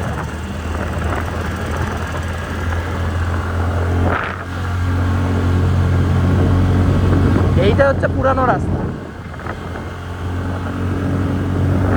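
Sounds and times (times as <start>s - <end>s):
scooter engine running: 0.0s - 11.9s.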